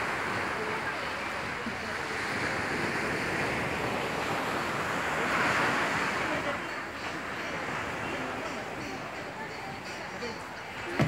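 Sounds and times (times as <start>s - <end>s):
small waves on sandy beach: 0.0s - 11.0s.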